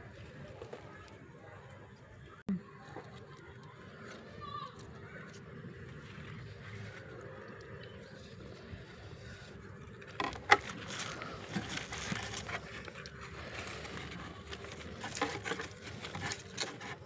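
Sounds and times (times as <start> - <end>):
rustling and scraping handling: 0.0 - 17.0.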